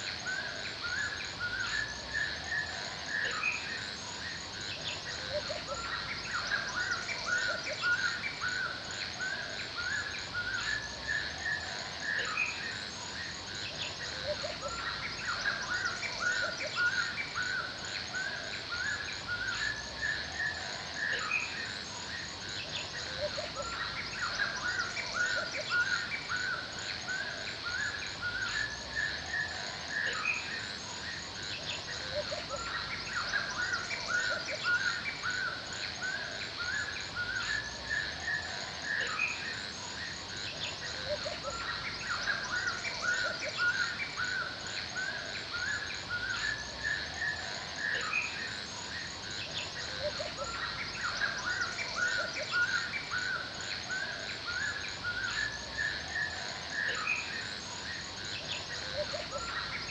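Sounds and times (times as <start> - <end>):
insects chirring: 0.0 - 59.9
songbirds chirping: 0.0 - 59.9.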